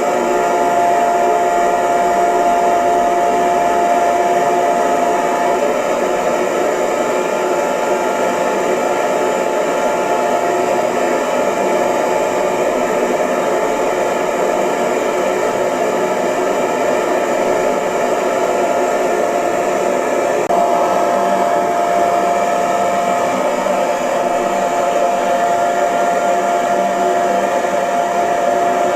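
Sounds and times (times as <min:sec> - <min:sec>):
hair dryer blowing air: 0:00.0 - 0:28.9
thin whine: 0:00.0 - 0:28.9.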